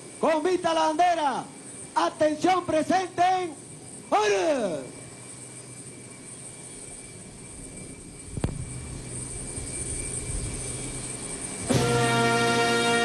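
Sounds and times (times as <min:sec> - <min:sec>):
low rumble of aircraft engines: 0:00.0 - 0:13.0.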